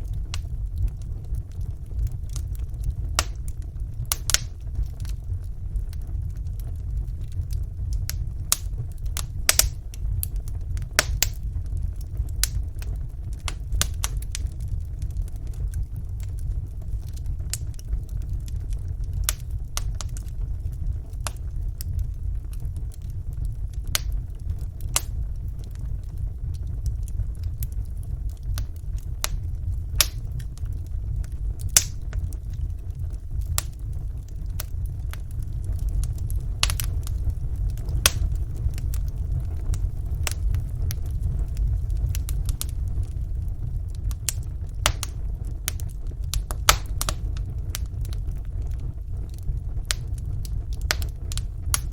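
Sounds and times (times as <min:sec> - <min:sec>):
fire low rumble: 0:00.0 - 0:51.9
wood fire crackling and popping: 0:00.0 - 0:51.9.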